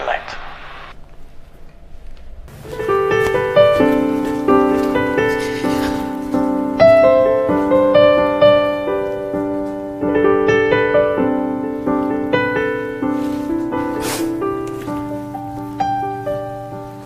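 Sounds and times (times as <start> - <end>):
slow piano music: 1.4 - 17.0.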